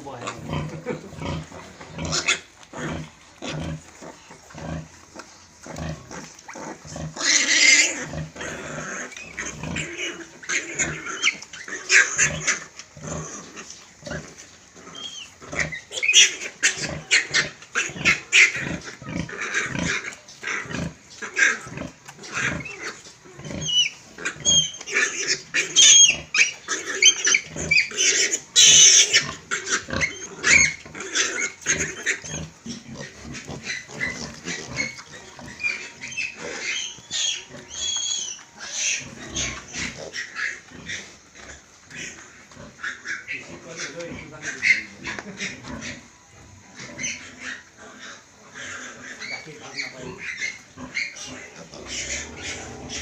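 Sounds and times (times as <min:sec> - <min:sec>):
pig squealing: 0:00.0 - 0:53.0
pigs grunting: 0:00.0 - 0:53.0.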